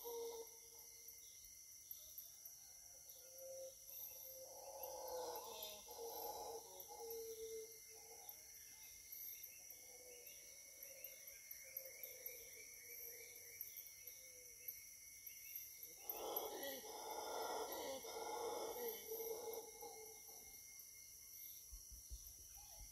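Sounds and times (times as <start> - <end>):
distant monkeys howling: 0.0 - 21.6
cicadas and insects chorus: 0.0 - 22.9.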